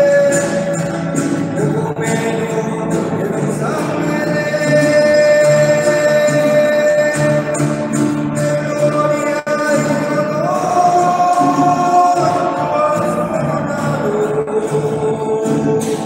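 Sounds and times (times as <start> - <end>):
man singing a hymn: 0.0 - 16.0
strummed acoustic guitar: 0.0 - 16.0.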